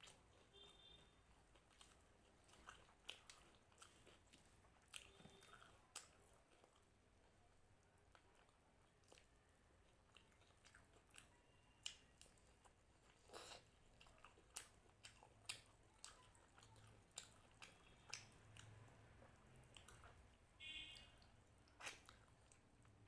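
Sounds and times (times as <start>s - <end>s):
person chewing crunchy food: 0.0s - 7.4s, 8.1s - 23.0s.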